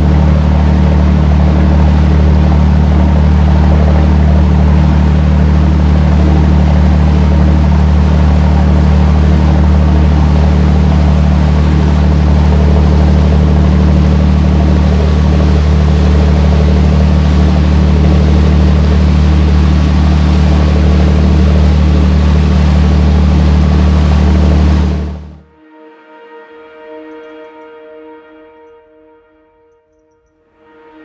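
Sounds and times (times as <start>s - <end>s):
boat engine drone: 0.0s - 31.0s.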